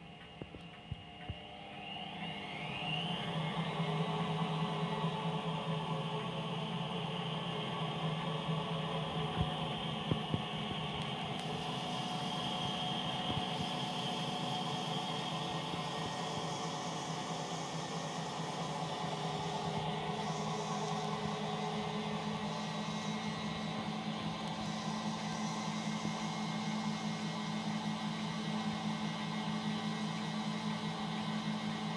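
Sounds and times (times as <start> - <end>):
washing machine spinning: 0.0 - 31.9.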